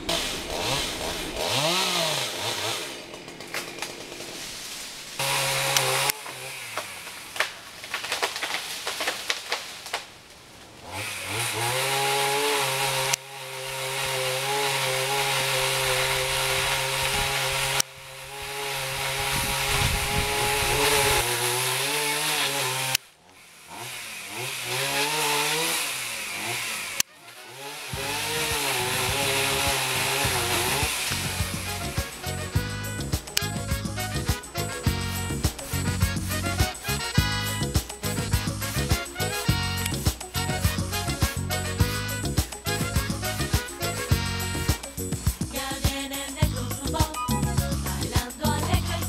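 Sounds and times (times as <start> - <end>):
chainsaw cutting wood: 0.0 - 49.0.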